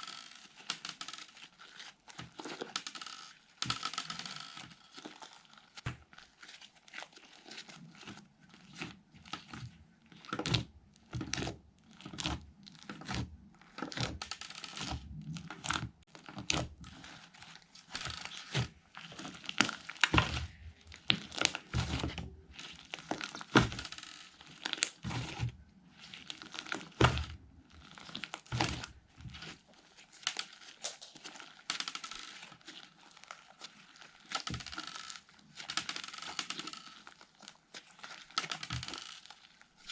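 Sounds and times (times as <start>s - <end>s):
slime crackling and popping: 4.6s - 39.9s.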